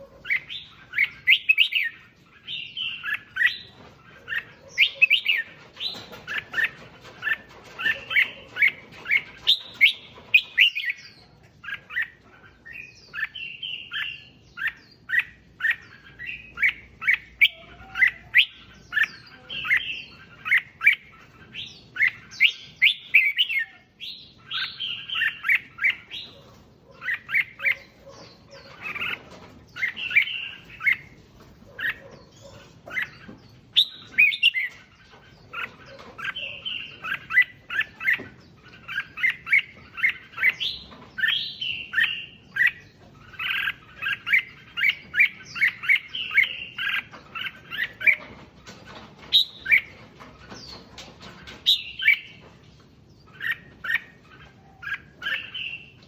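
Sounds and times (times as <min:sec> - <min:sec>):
bird singing chirpy phrases: 0:00.0 - 0:48.4.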